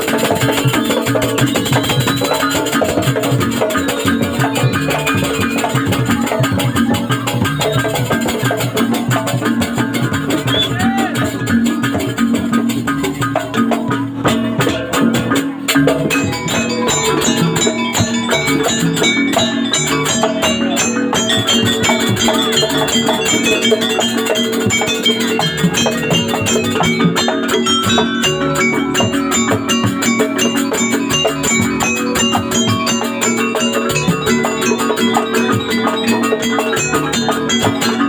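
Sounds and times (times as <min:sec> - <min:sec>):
percussion ensemble music: 0:00.0 - 0:38.0.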